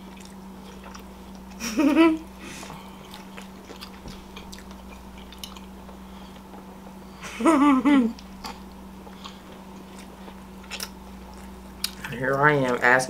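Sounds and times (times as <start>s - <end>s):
people chewing food: 0.0s - 7.2s, 8.0s - 12.9s
steady low hum: 0.0s - 13.0s.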